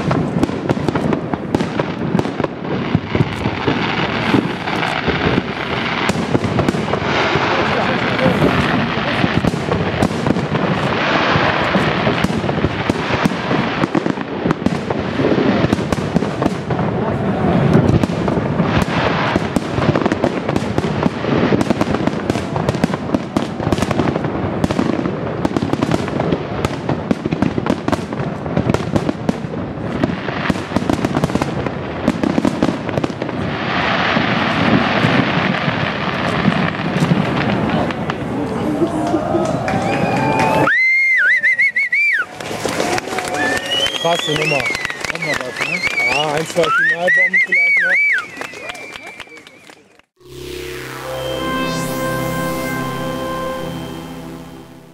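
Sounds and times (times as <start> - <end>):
fireworks bursting and crackling: 0.0 - 54.9.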